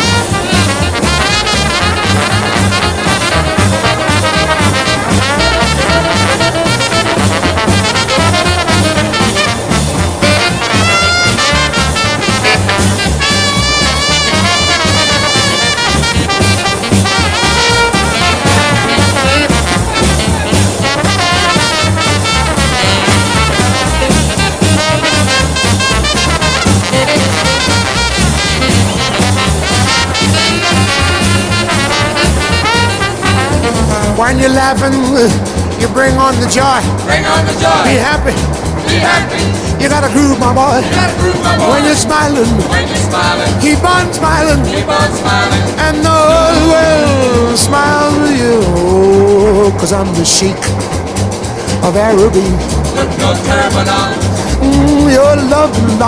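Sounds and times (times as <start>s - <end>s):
trumpet: 0.0s - 35.9s, 36.6s - 56.0s
rhythm section: 0.0s - 56.0s
swing jazz band: 0.0s - 56.0s
trombone: 0.0s - 56.0s.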